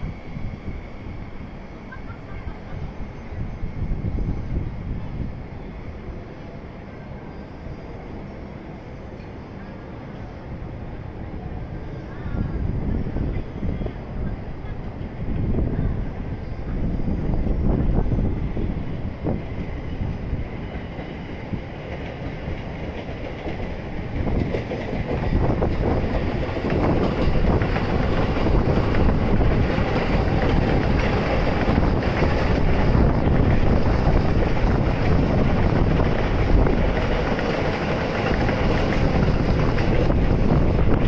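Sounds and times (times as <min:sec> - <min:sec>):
trains rumbling on rails: 0:00.0 - 0:41.0.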